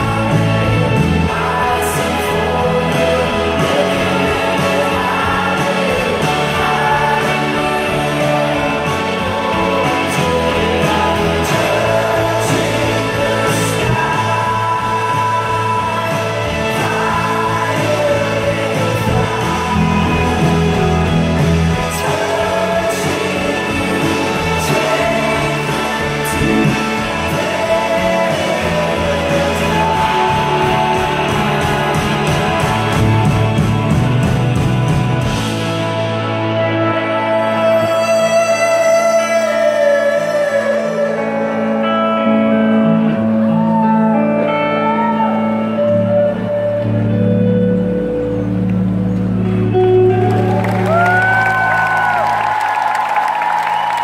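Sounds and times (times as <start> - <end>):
male singer: 0.0 - 33.6, 35.5 - 47.4
bass guitar: 0.0 - 54.0
drums: 0.0 - 54.0.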